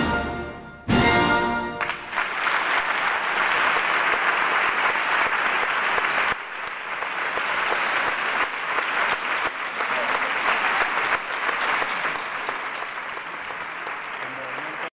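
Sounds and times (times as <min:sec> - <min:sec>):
audience applauding: 0:01.8 - 0:14.9.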